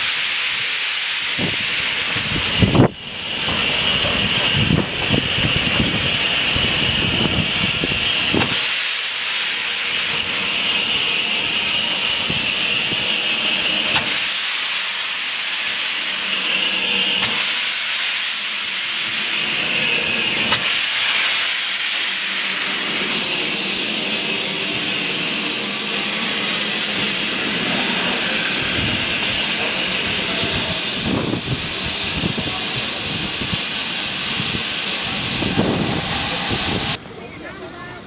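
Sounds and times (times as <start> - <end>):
steam locomotive venting steam: 0.0 - 38.0.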